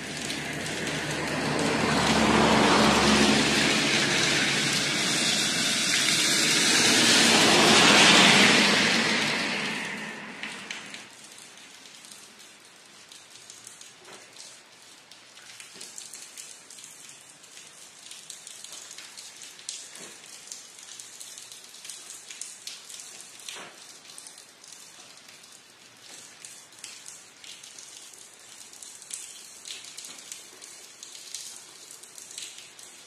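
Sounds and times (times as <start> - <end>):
rain falling steadily: 0.0 - 33.0.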